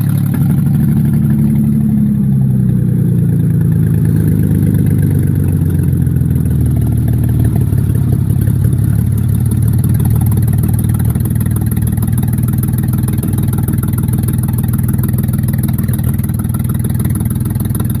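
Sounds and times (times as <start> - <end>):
engine running without exhaust: 0.0 - 18.0.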